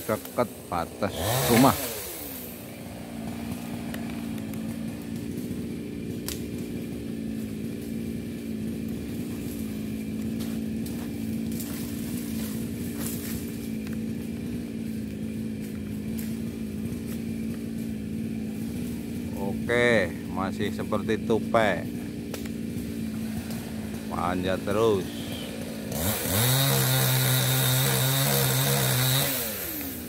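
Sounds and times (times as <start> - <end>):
chainsaw idling: 0.0 - 30.0.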